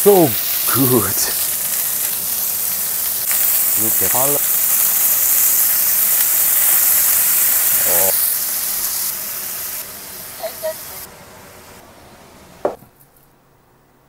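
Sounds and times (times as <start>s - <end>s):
beef sizzling in a pan: 0.0s - 11.8s.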